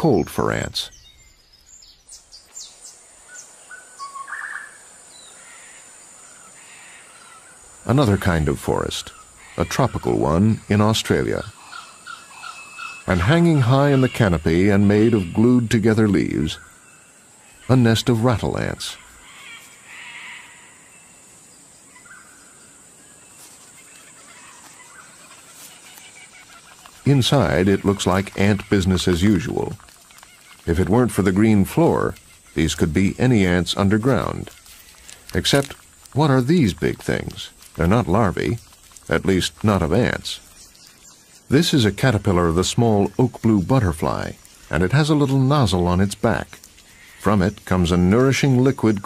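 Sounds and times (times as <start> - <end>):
birds chirping: 0.0 - 49.0
steady high hiss: 0.0 - 49.0.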